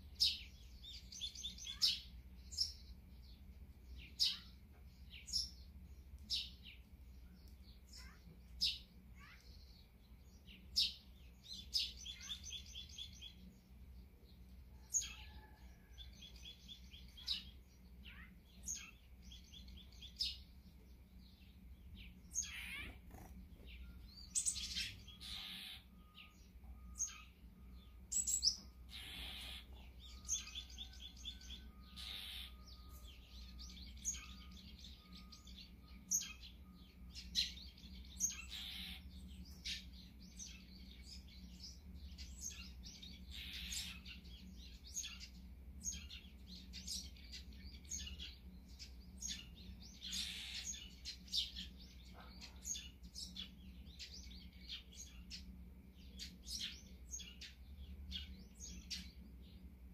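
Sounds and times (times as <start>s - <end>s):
faint low hum: 0.0s - 59.9s
songbirds chirping: 0.0s - 59.9s.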